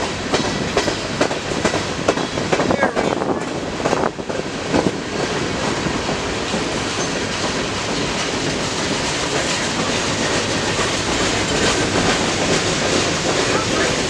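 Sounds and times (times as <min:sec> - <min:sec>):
freight train wheels rumbling: 0:00.0 - 0:14.0
train knocks: 0:00.0 - 0:14.0.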